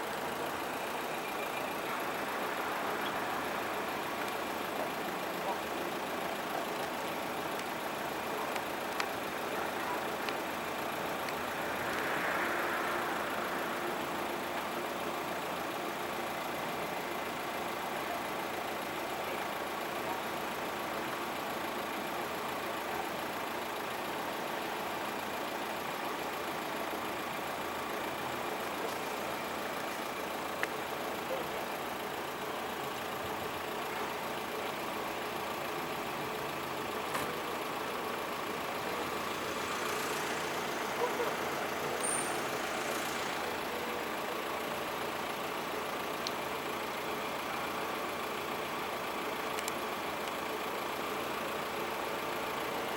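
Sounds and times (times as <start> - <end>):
steady engine noise: 0.0 - 52.9.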